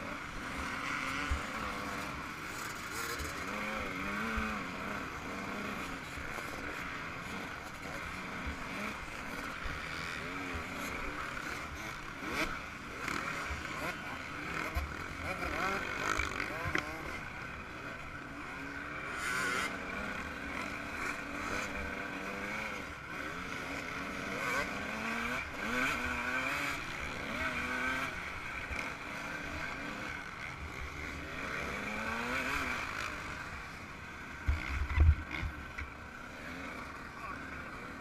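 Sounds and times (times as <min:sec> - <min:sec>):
two-stroke engine racing: 0:00.0 - 0:38.0.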